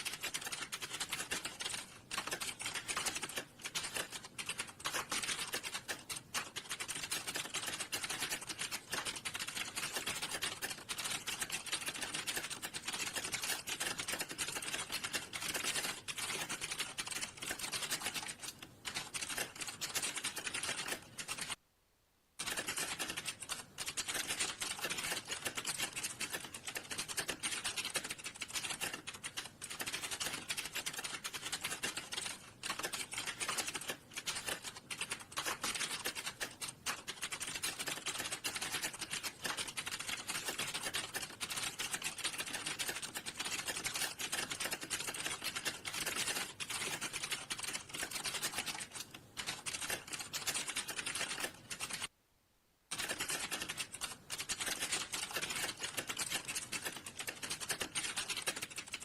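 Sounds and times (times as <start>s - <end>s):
fast typing on a keyboard: 0.0s - 21.6s, 22.4s - 52.1s, 52.9s - 59.0s.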